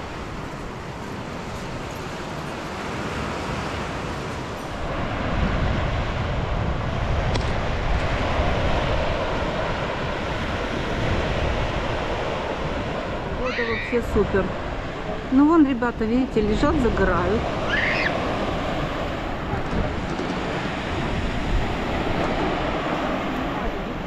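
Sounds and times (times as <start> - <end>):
surf washing onto beach: 0.0 - 24.0
wind buffeting microphone: 0.0 - 24.0.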